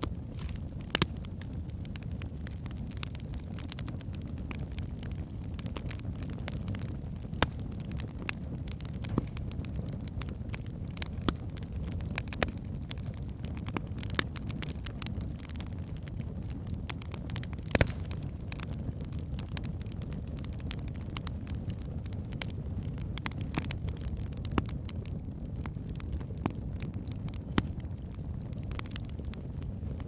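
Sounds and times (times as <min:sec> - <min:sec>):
fire crackling: 0:00.0 - 0:30.0
fire flames rumbling: 0:00.0 - 0:30.0
sharp pops of fire: 0:00.0 - 0:30.0.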